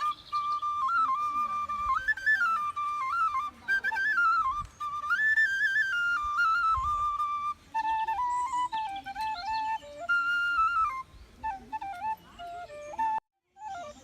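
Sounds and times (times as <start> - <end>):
solo flute-like melody: 0.0 - 14.0.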